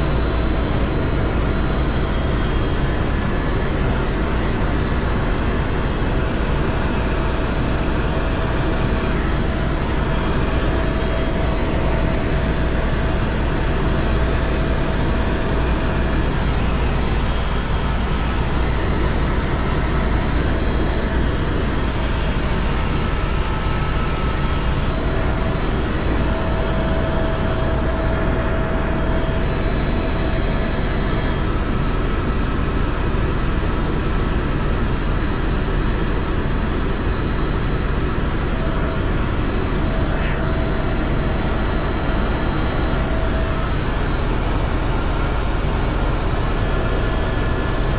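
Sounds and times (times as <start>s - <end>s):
faint whine: 0.0s - 47.9s
helicopter engine and rotor drone: 0.0s - 47.9s.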